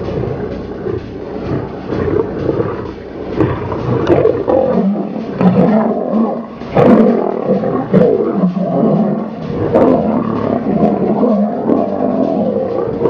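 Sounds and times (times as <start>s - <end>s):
lions growling and snarling: 0.0s - 13.0s.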